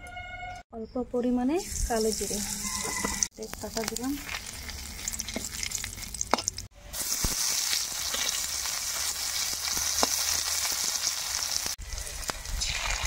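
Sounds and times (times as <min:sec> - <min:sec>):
onions and garlic frying: 0:01.6 - 0:13.0
spices sizzling in hot oil: 0:01.6 - 0:13.0.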